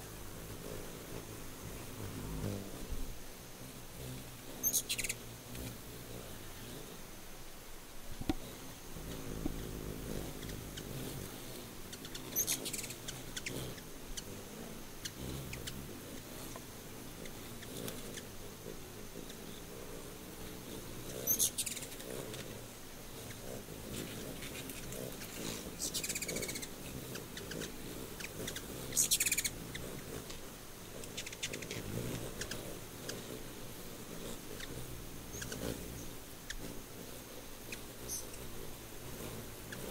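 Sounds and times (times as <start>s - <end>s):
hummingbird wings humming: 0.0s - 39.9s
high bird chips and ticks: 4.0s - 5.7s, 8.3s - 39.9s.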